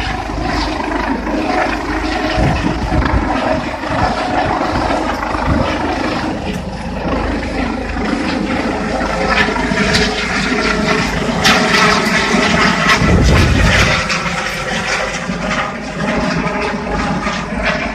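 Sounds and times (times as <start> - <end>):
helicopter running: 0.0 - 17.9
wind buffeting microphone: 0.0 - 17.9.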